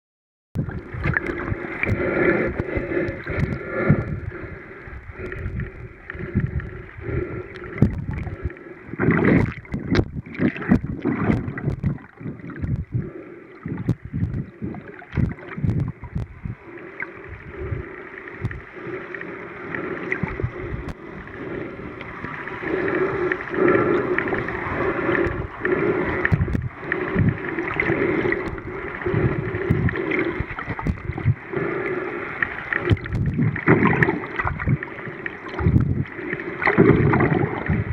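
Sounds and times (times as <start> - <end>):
muffled water sloshing: 0.6 - 37.9.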